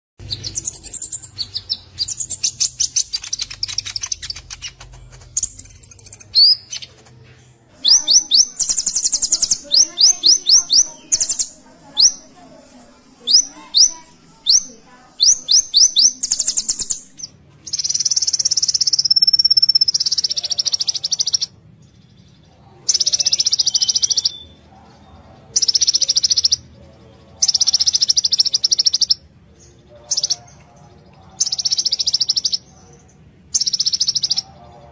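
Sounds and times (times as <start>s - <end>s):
sunbird singing: 0.2s - 6.9s, 7.8s - 12.4s, 13.1s - 24.6s, 25.4s - 34.8s.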